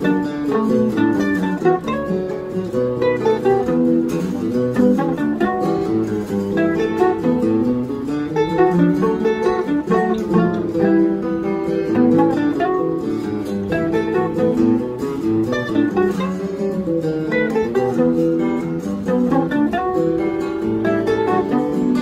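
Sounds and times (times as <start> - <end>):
nylon-string guitar accompaniment: 0.0 - 22.0
plucked mandolin melody: 0.0 - 22.0.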